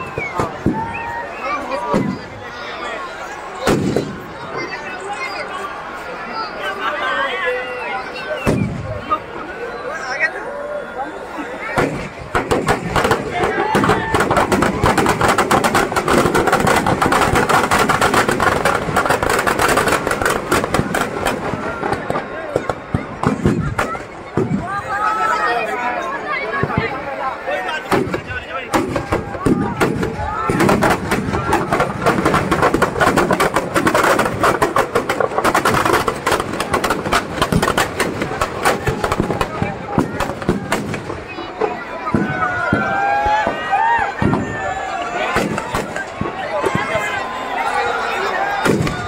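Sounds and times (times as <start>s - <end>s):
firecrackers banging and crackling: 0.0s - 5.3s, 8.3s - 9.2s, 11.6s - 25.4s, 26.4s - 49.0s.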